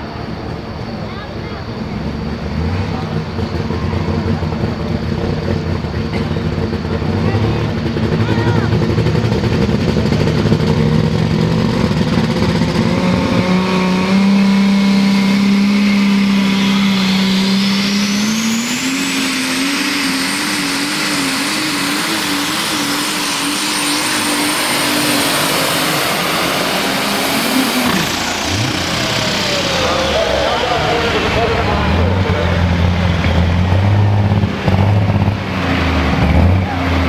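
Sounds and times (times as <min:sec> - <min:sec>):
turbo whine: 0:00.0 - 0:35.4
tractor engine at full throttle: 0:00.0 - 0:37.0.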